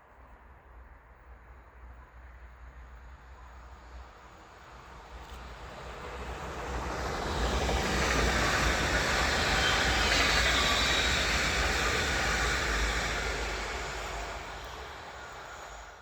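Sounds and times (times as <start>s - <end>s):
train passing: 1.3s - 16.0s.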